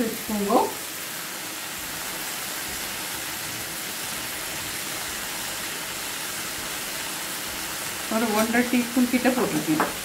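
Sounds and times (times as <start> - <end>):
leaves sizzling in a pan: 0.0 - 10.0.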